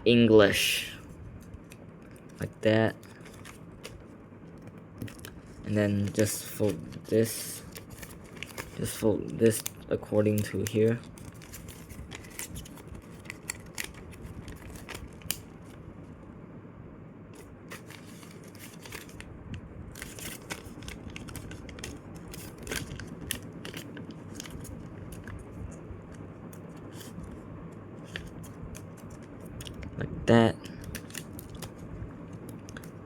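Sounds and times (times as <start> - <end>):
steady low hum: 0.0 - 33.0
paper crinkling and rustling: 1.5 - 15.8, 17.4 - 19.3, 19.9 - 27.4, 28.0 - 29.9, 30.6 - 33.0.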